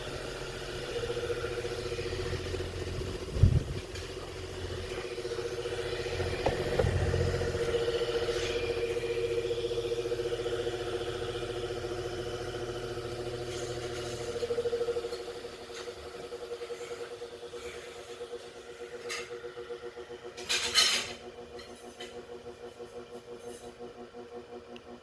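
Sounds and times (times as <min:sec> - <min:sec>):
electric fan motor hum: 0:00.0 - 0:25.0.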